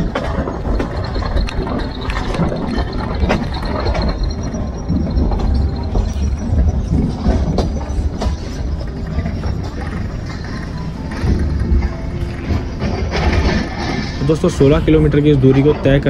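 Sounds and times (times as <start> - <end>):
train rumbling: 0.0 - 16.0
wheels clicking over rails: 0.0 - 16.0.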